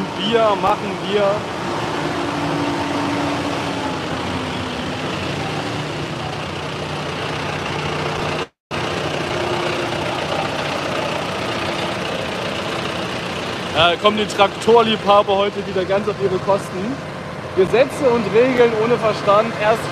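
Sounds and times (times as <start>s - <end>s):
diesel tractor engines driving past: 0.0s - 19.9s.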